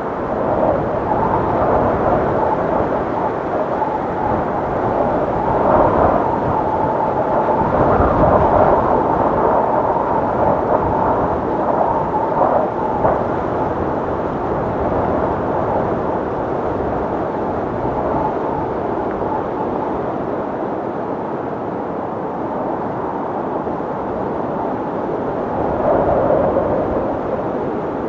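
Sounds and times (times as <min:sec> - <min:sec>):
strong wind rushing: 0:00.0 - 0:28.0.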